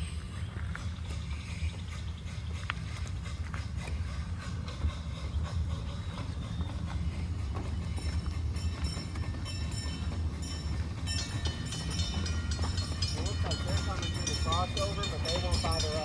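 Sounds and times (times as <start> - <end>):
miniature train rumbling: 0.0 - 16.0
wheels clicking on rails: 0.0 - 16.0.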